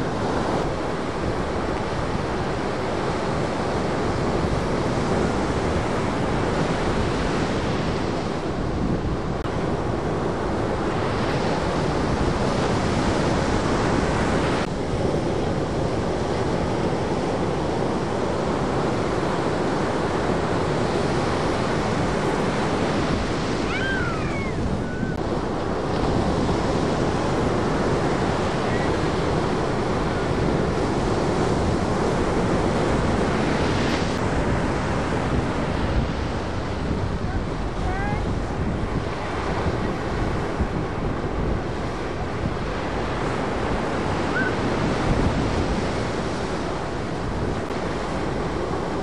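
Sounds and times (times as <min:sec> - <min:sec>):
waves breaking: 0:00.0 - 0:49.0.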